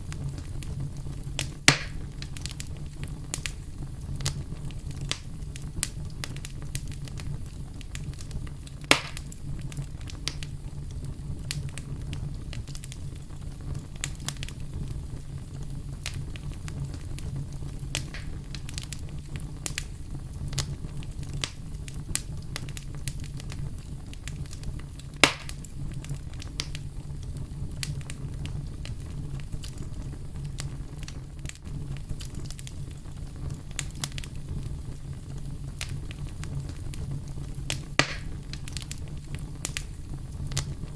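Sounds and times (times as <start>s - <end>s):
loud fire pops: 0.0s - 40.9s
wood fire rumbling and crackling: 0.0s - 40.9s.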